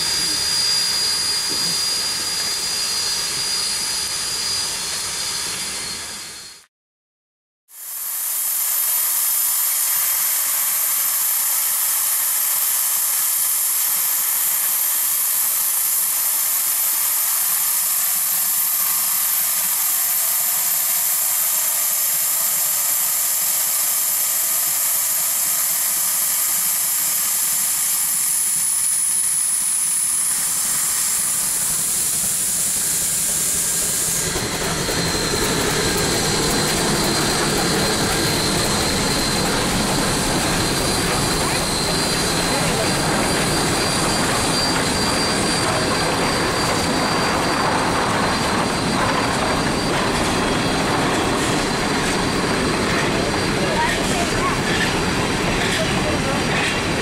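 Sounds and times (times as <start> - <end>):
steam locomotive hissing: 0.0 - 6.6, 7.8 - 57.0
train rumbling past: 8.6 - 57.0.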